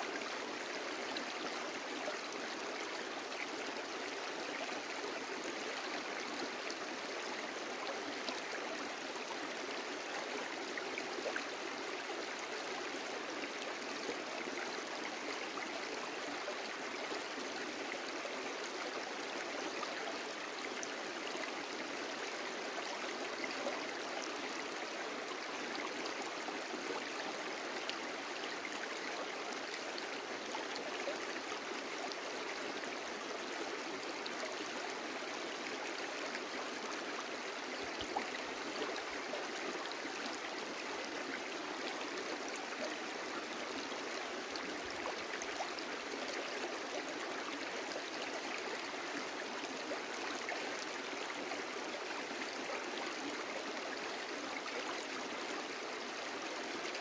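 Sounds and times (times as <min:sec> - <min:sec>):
brook flowing: 0:00.0 - 0:57.0.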